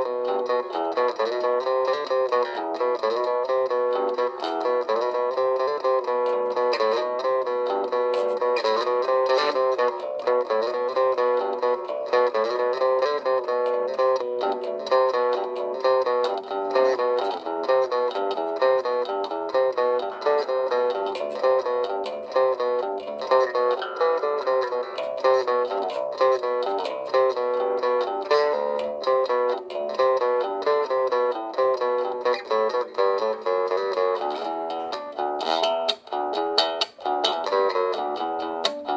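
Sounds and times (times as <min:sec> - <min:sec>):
plucked string instrument: 0:00.0 - 0:38.9.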